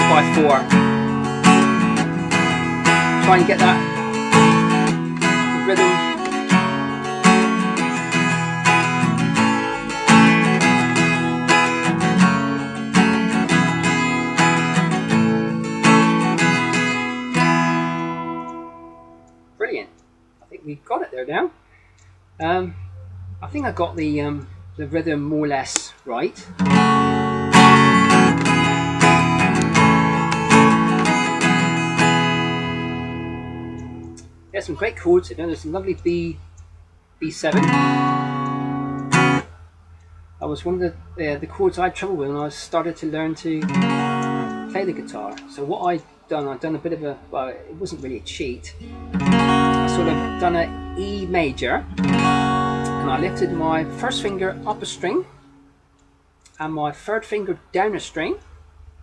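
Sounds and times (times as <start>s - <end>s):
acoustic guitar strumming: 0.0s - 21.4s, 22.4s - 58.4s.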